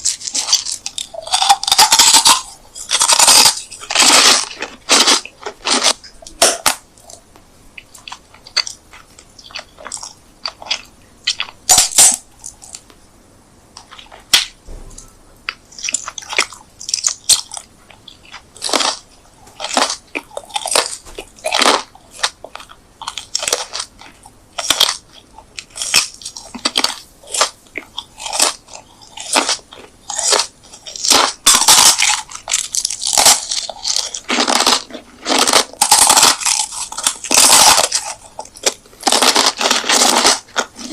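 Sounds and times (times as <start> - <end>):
crunchy chewing: 0.0 - 13.0, 13.7 - 40.9.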